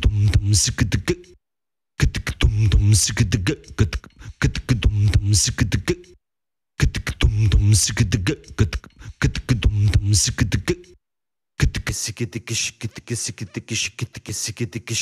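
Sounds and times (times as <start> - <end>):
beatbox vocal percussion: 0.0 - 1.4, 2.0 - 6.2, 6.8 - 11.0, 11.6 - 15.0.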